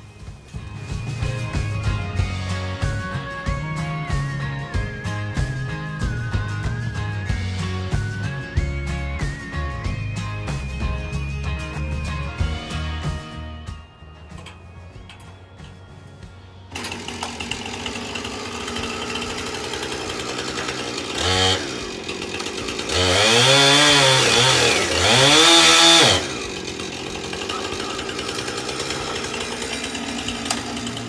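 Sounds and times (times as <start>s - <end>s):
chainsaw cutting tree trunk: 0.4s - 11.3s, 16.7s - 31.0s
chainsaw idling and revving: 0.4s - 15.3s, 16.7s - 31.0s.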